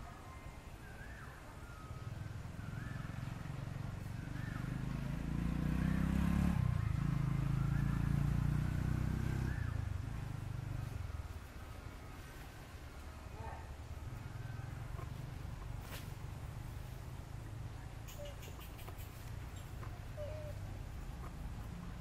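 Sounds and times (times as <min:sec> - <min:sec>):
vehicle engine passing by: 0:01.6 - 0:22.0.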